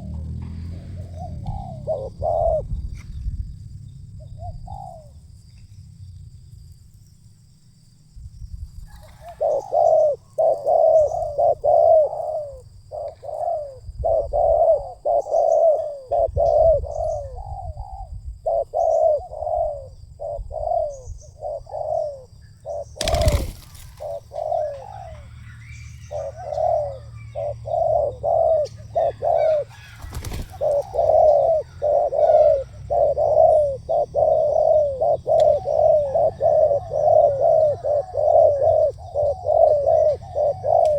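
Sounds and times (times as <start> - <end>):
dove cooing: 0.0 - 6.1, 8.8 - 40.9.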